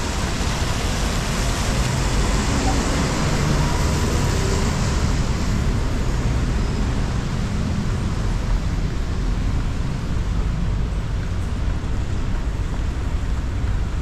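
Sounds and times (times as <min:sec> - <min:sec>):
passing vehicles: 0:00.0 - 0:14.0
rain: 0:00.0 - 0:14.0.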